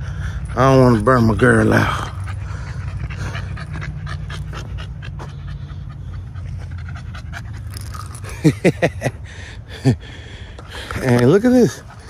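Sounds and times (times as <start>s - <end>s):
dog panting: 0.0s - 8.4s, 9.2s - 12.0s.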